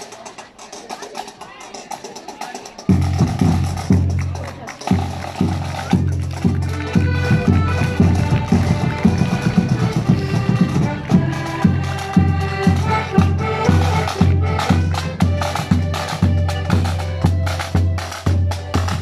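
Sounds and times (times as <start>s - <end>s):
accordion band playing a march: 0.0s - 19.0s
side drum rolls: 2.0s - 19.0s
bass drum beat: 2.9s - 19.0s.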